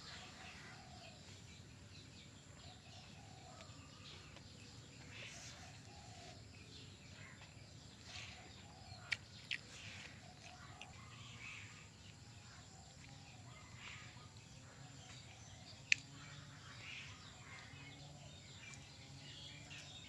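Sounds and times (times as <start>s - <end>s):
faint bird calls: 0.0s - 1.8s, 2.6s - 20.0s.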